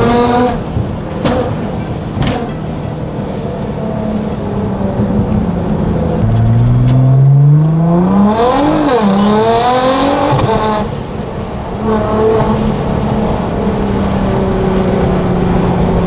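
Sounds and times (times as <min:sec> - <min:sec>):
car engine accelerating: 0:02.8 - 0:16.0.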